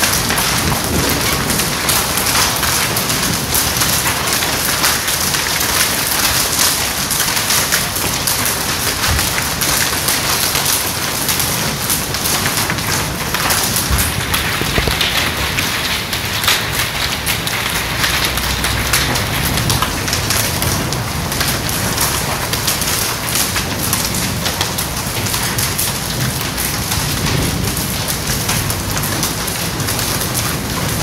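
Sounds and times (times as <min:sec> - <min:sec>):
hail on pavement: 0:00.0 - 0:31.0.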